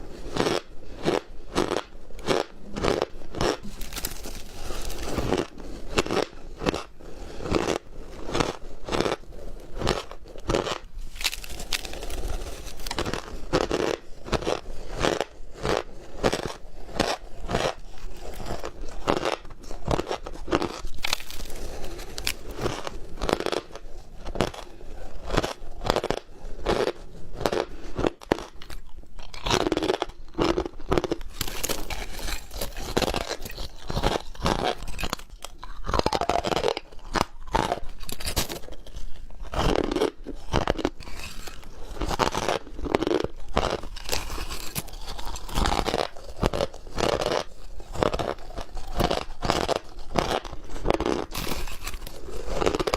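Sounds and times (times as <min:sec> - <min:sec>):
ice crunching while chewed: 0:00.0 - 0:52.9.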